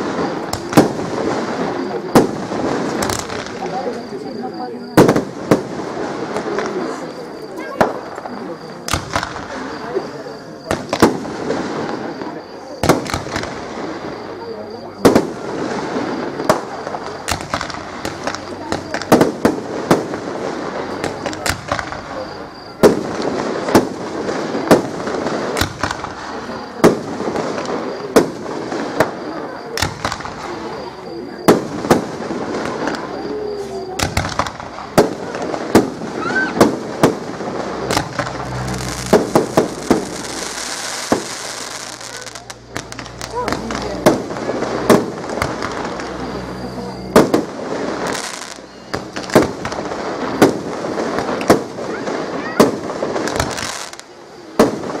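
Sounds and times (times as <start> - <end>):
firework shells bursting: 0.0 - 4.4, 7.8 - 33.2, 33.8 - 55.0
steady background noise: 0.0 - 55.0.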